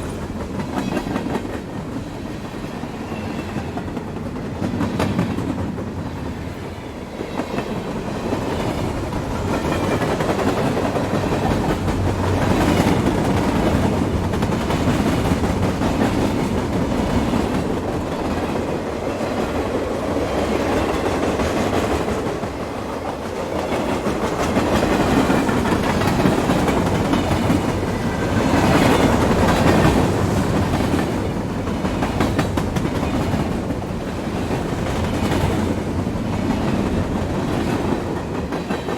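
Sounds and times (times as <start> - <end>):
train wheels clicking over rail joints: 7.2 - 38.9.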